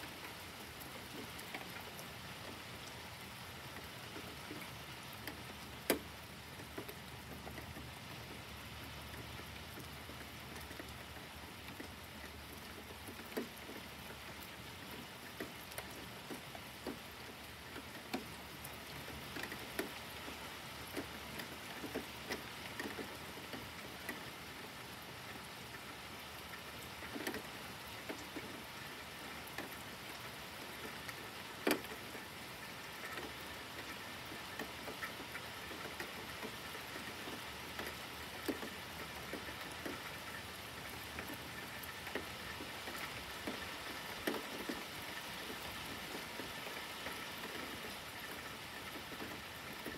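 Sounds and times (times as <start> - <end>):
faint steady rain: 0.0 - 49.9.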